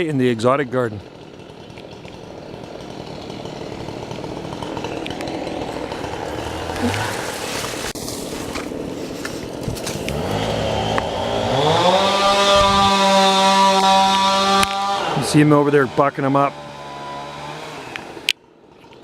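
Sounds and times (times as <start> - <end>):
chainsaws running: 0.0 - 18.3.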